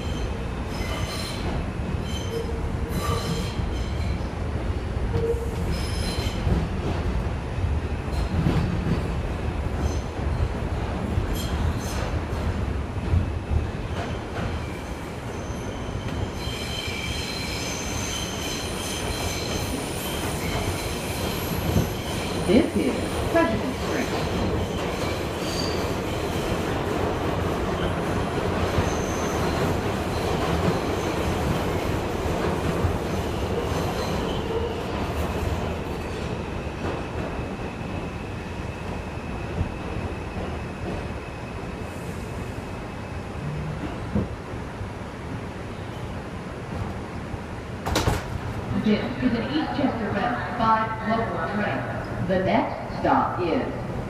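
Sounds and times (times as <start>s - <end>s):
train wheels rumbling on rail: 0.0s - 50.6s.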